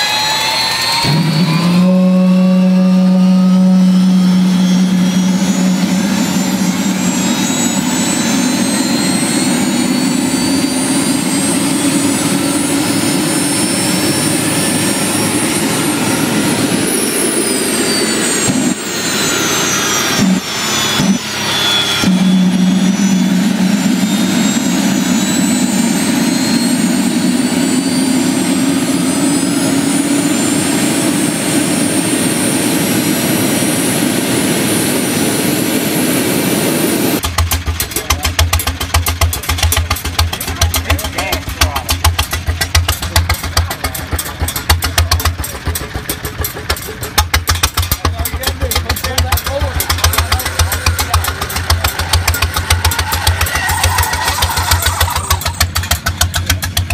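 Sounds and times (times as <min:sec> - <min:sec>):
low hum: 0:00.0 - 0:56.9
turbine engine high whine: 0:00.0 - 0:56.9.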